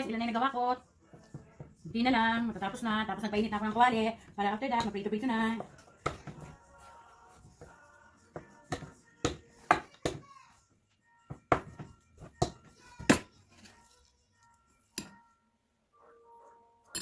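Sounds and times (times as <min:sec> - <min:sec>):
faint music: 0:00.0 - 0:17.0.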